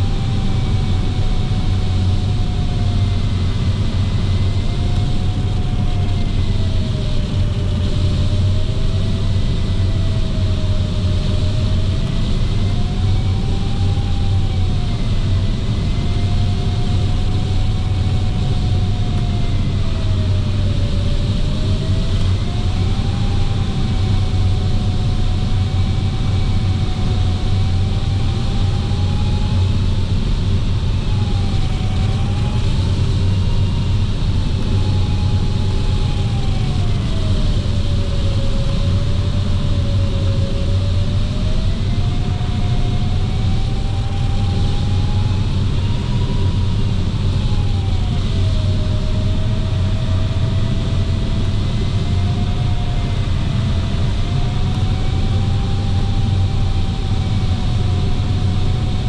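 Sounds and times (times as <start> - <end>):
airflow rush and rumble: 0.0 - 59.0.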